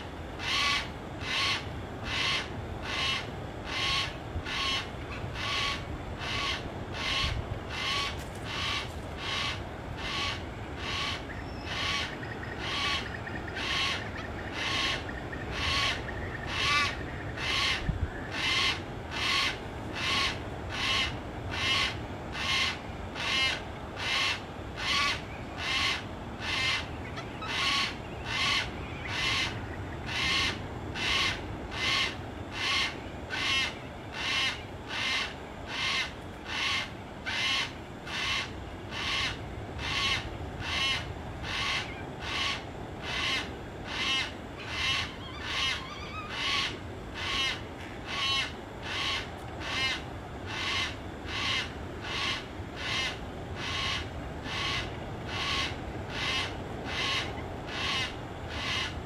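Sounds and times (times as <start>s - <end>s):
cockatoo calling: 0.4s - 59.0s.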